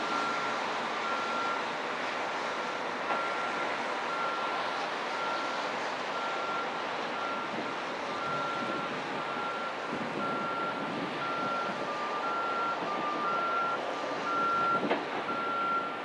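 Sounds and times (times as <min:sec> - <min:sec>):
engine noise: 0:00.0 - 0:16.0.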